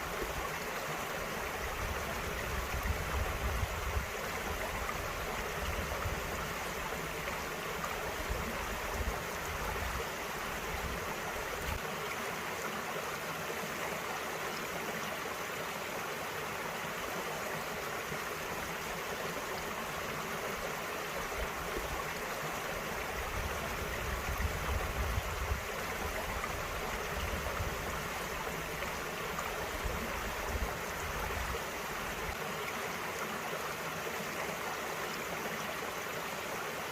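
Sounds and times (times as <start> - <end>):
stream running over rocks: 0.0 - 36.9.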